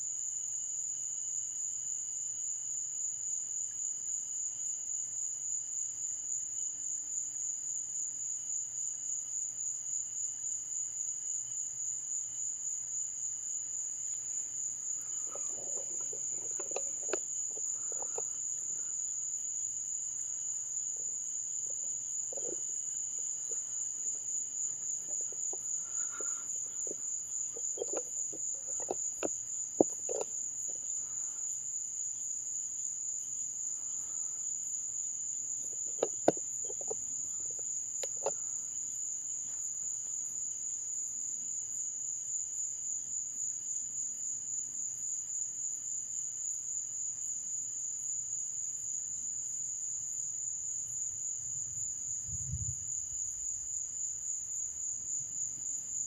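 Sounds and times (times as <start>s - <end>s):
night insects trilling: 0.0s - 56.0s.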